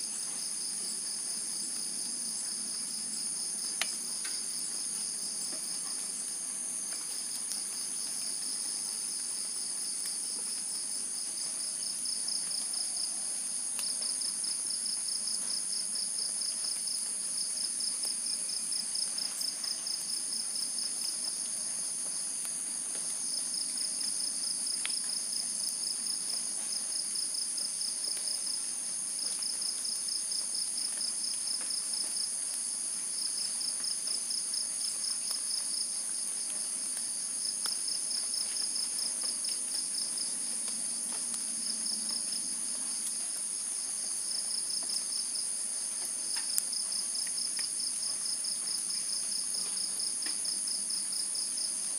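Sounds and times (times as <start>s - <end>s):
rapidly pulsing insect trill: 0.0s - 51.9s
steady high-pitched insect trill: 0.0s - 51.9s.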